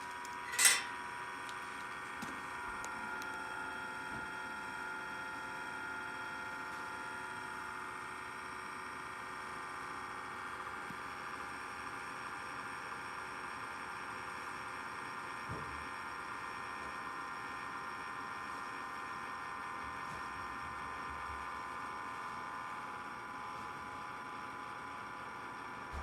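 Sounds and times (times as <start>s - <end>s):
electrical whine and hum: 0.0s - 26.0s.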